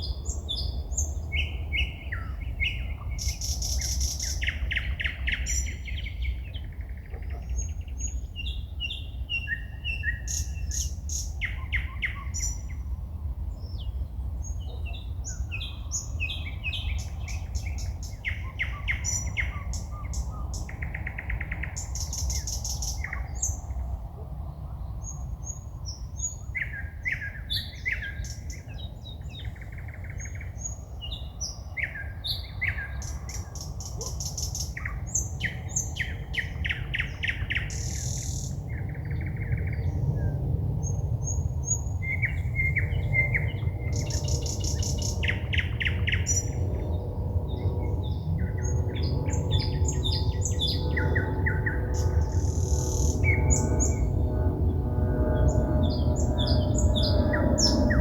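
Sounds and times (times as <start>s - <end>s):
songbirds singing trills and whistles: 0.0s - 58.0s
steady low rumble: 10.4s - 58.0s.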